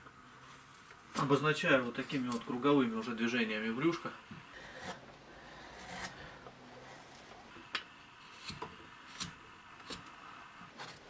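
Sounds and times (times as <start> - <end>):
carving gouge cutting wood: 0.4 - 3.1, 3.8 - 11.0.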